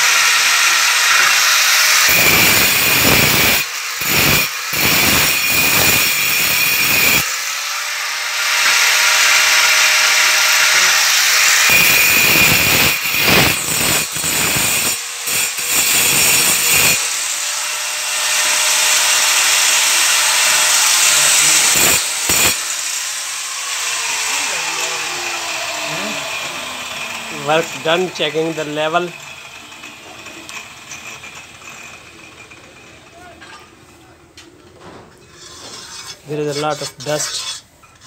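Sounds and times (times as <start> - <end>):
grinder motor high whine: 0.0 - 33.1
grinder blade cutting stone: 0.0 - 33.3, 35.3 - 38.0.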